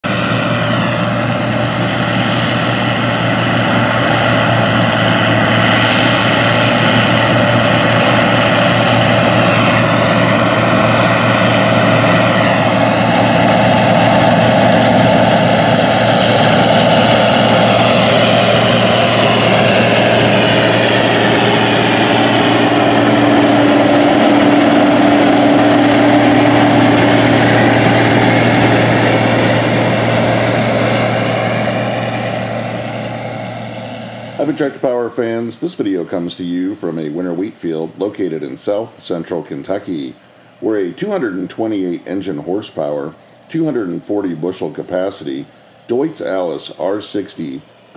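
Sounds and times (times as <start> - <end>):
combine harvester engine droning: 0.0 - 47.9.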